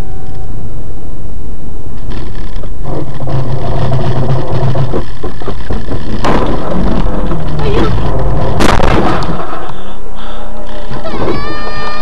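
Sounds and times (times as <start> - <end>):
engine drone: 0.0 - 11.1.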